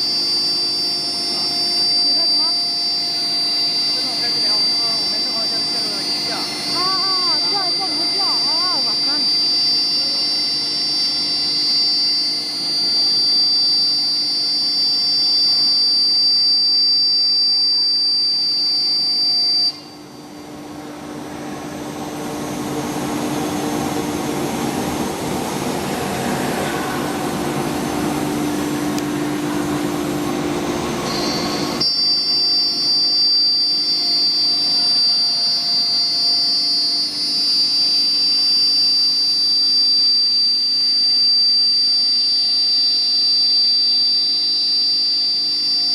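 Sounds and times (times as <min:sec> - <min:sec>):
cnc router high whine: 0:00.0 - 0:45.9
machine noise with low hum: 0:00.0 - 0:45.9.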